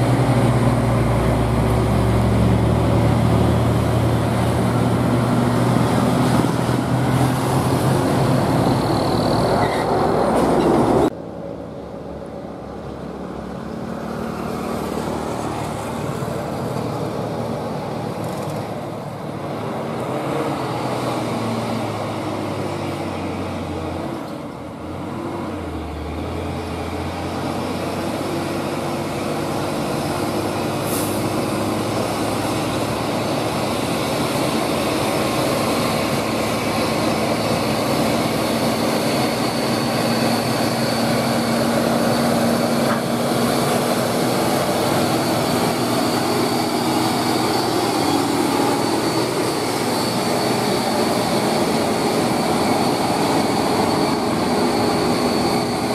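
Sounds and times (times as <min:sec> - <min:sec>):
truck diesel engine running: 0:00.0 - 0:25.0, 0:25.6 - 0:55.9
tyre and road noise: 0:00.0 - 0:55.9.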